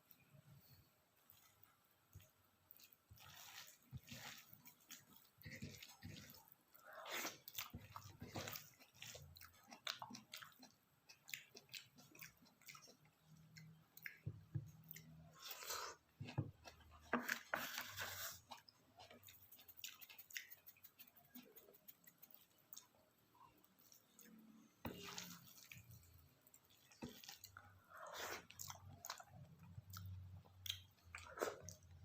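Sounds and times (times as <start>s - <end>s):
person chewing with wet smacks: 1.2s - 32.0s.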